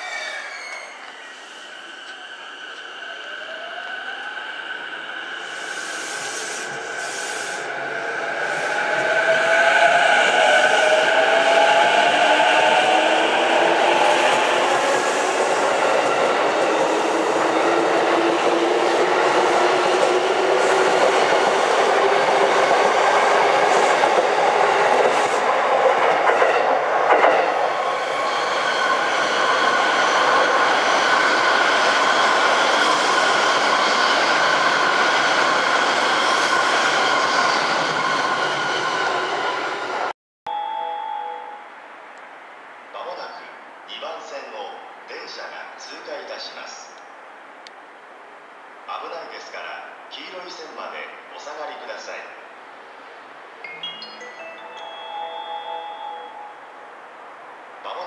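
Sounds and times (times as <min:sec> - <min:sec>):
high-speed train running: 0:00.0 - 0:41.9, 0:49.7 - 0:58.0.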